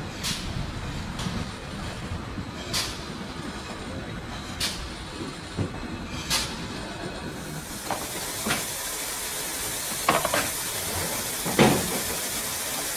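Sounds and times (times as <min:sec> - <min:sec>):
steam locomotive rumbling hiss: 0:00.0 - 0:12.9.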